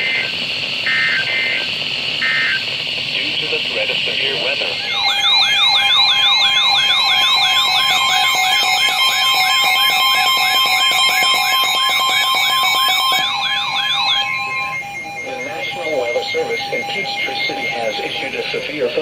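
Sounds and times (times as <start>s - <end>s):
electronic siren sweeping down: 0.9s - 2.7s, 4.7s - 19.0s
steady tones: 2.8s - 19.0s.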